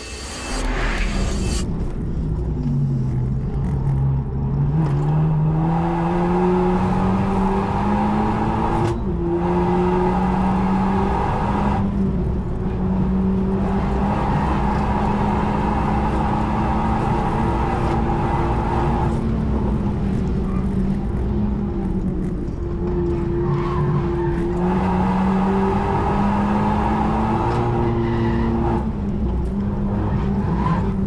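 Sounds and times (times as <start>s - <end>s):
car engine at full throttle: 0.0s - 31.0s.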